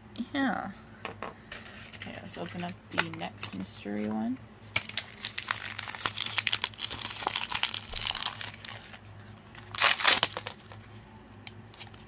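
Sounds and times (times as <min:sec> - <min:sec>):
plastic wrapper crinkling: 0:01.7 - 0:12.0.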